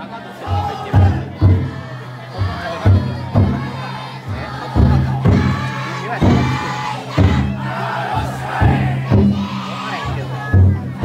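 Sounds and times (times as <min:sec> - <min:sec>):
crowd shouting and chanting: 0:00.0 - 0:11.0
big drum strokes: 0:00.4 - 0:11.0.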